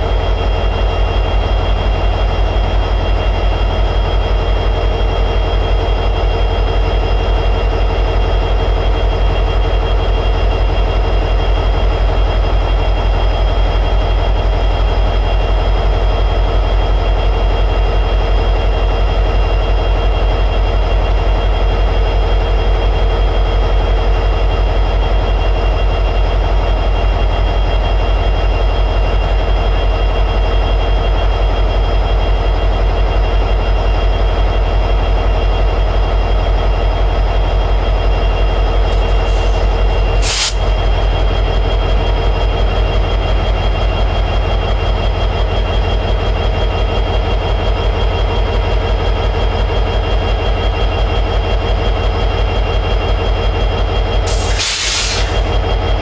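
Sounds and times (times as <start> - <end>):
diesel locomotive engine idling: 0.0 - 56.0.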